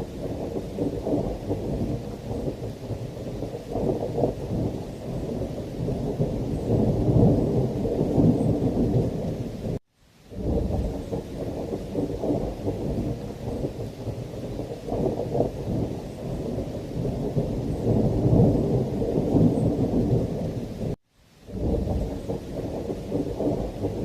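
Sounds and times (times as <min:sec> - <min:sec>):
rain: 0:00.0 - 0:24.0
rolling thunder: 0:00.0 - 0:24.0.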